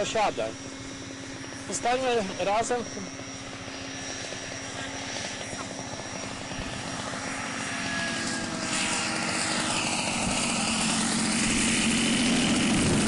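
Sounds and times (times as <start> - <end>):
model airplane engine flying: 0.0 - 13.0.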